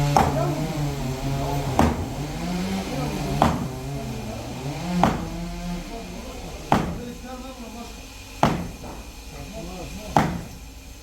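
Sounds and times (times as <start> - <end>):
sharp ringing knocks: 0.0 - 10.8
machine engine running: 0.0 - 11.0.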